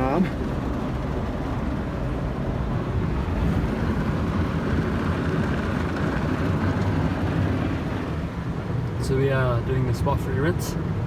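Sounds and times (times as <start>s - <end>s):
car wash brushes and water: 0.0s - 9.0s.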